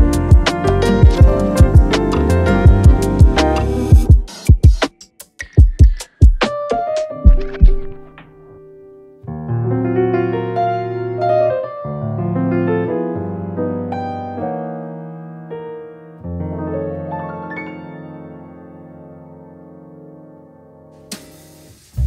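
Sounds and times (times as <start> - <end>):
slow piano chords: 0.0 - 4.2, 6.5 - 21.6.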